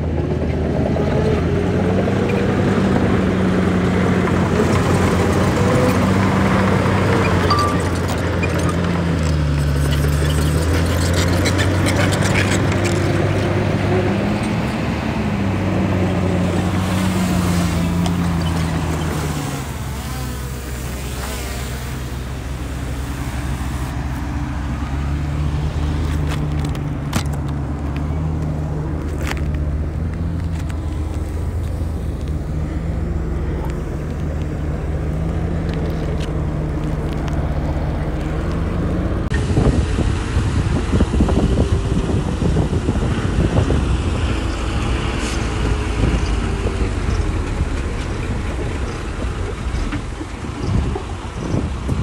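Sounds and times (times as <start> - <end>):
heavy machinery diesel engine: 0.0 - 52.0.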